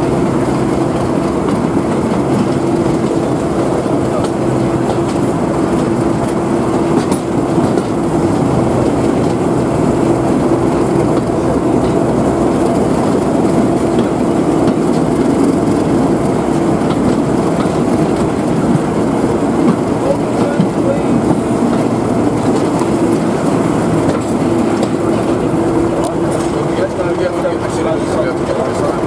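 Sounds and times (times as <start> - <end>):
diesel locomotive engine drone: 0.0 - 29.0
wheel clicks over rail joints: 0.4 - 9.5, 10.7 - 29.0.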